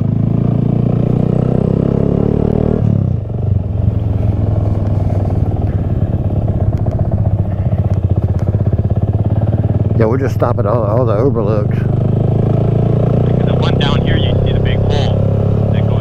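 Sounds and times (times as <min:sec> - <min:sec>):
small motorcycle engine revving: 0:00.0 - 0:16.0.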